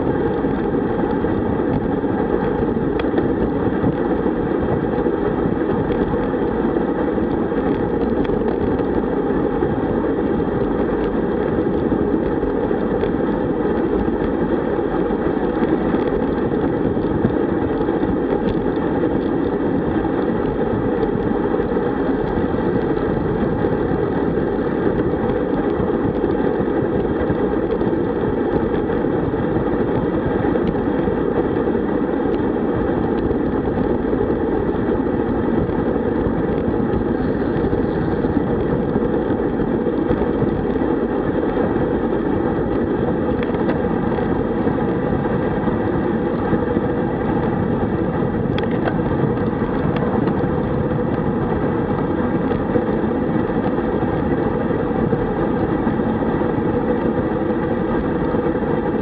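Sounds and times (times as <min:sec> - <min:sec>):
bicycle tyre road noise: 0:00.0 - 0:59.0
wind rush: 0:00.0 - 0:59.0.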